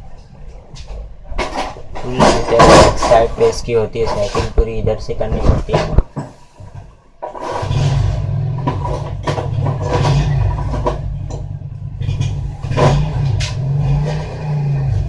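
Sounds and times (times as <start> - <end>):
engine humming: 0.0 - 15.0
metallic clatters and knocks: 0.9 - 4.6, 5.4 - 14.2.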